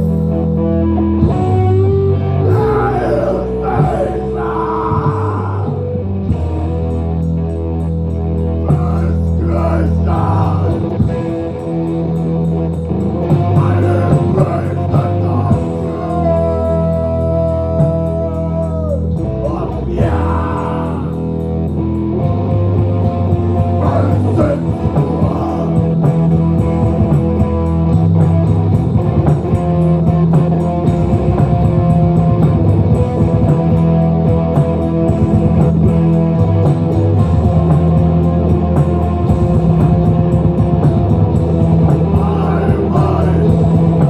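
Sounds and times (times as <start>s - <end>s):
drums: 0.0s - 44.0s
guitars sustained low notes: 0.0s - 44.0s.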